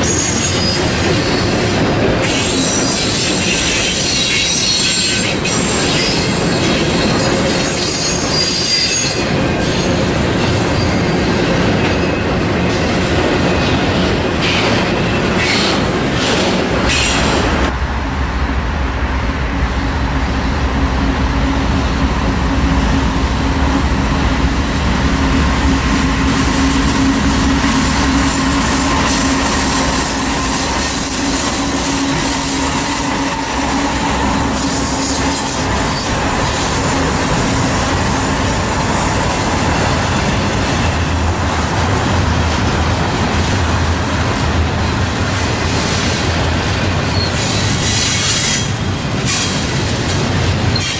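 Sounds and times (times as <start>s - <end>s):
freight train rumbling on rails: 0.0s - 50.9s.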